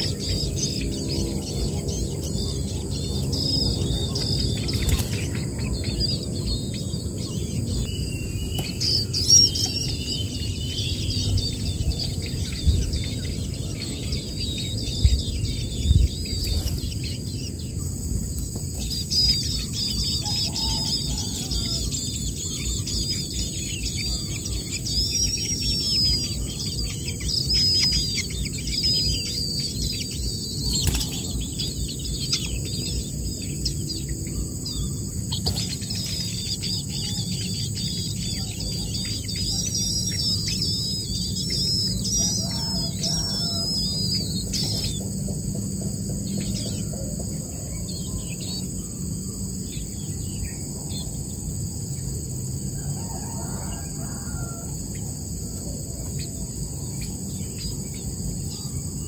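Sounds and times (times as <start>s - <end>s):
high insect drone: 0.0s - 59.0s
nestling birds chirping: 0.0s - 59.0s.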